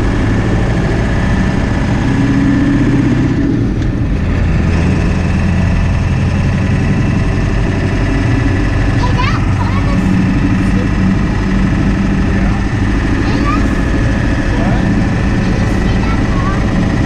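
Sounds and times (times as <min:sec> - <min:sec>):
pickup truck engine running: 0:00.0 - 0:17.0.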